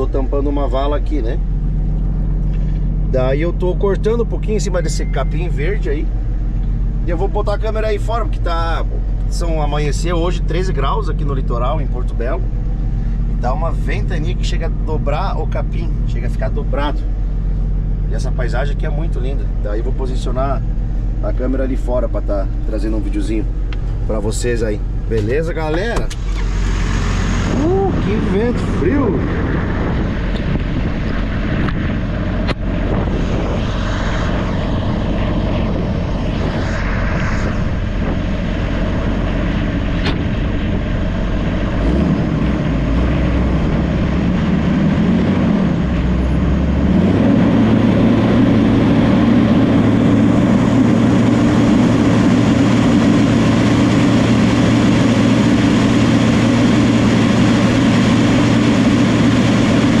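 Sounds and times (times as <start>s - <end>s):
bulldozer diesel engine running: 0.0s - 60.0s.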